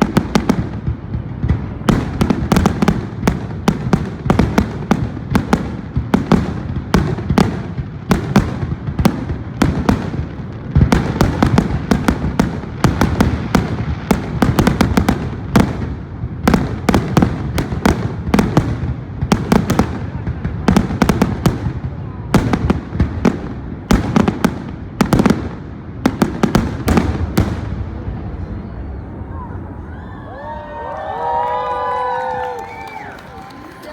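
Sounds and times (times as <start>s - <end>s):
fireworks bangs and crackles: 0.0s - 29.7s, 30.4s - 33.9s
rumble of echoing explosions: 0.0s - 29.8s.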